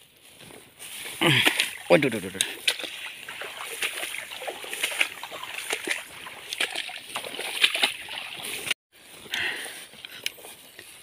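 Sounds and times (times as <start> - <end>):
grass rustling: 0.0 - 11.0
footsteps splashing in wet ground: 0.1 - 11.0.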